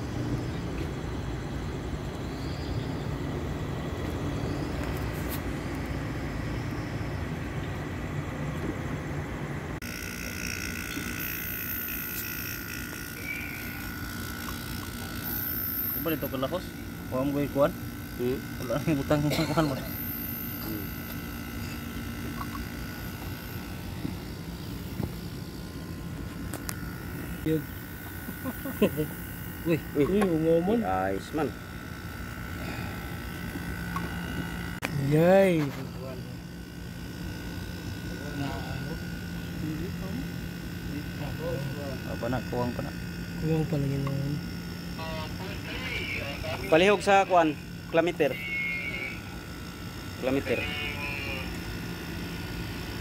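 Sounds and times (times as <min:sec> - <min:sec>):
air conditioner humming: 0:00.0 - 0:53.0.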